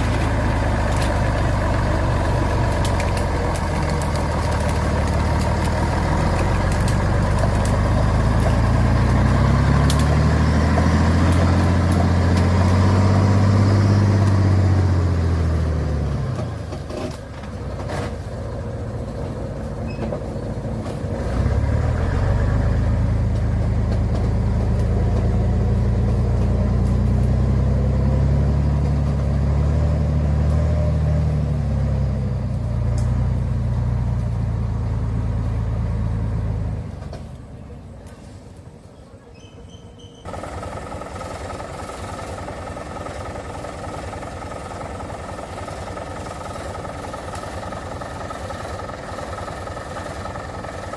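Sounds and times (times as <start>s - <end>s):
truck engine revving under load: 0.0s - 37.5s, 40.2s - 50.9s.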